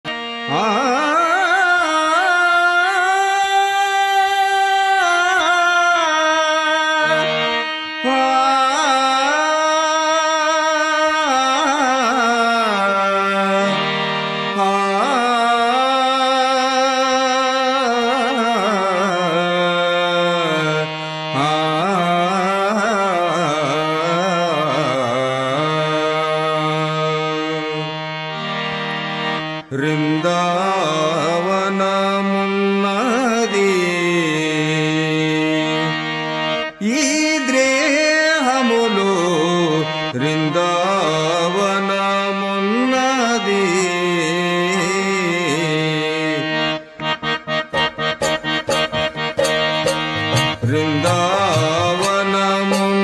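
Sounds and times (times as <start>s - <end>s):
harmonium held notes: 0.0s - 53.0s
man singing drawn-out vocal: 0.5s - 7.4s, 8.0s - 13.9s, 14.5s - 28.0s, 29.7s - 36.0s, 36.8s - 46.8s, 48.7s - 53.0s.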